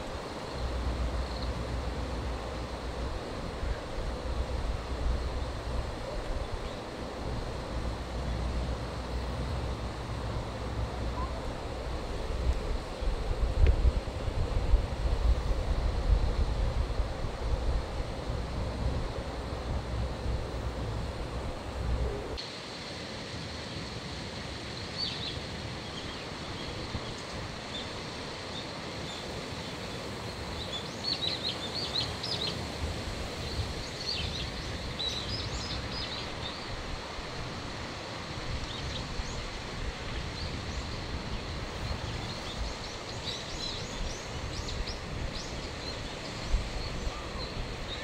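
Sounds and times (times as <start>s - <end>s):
outdoor rumble and hiss: 0.0s - 48.0s.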